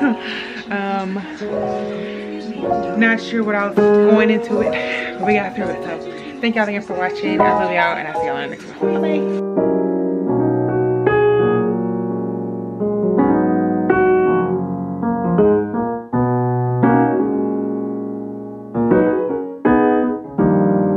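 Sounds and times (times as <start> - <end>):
slow keyboard notes and chords: 0.0 - 20.9.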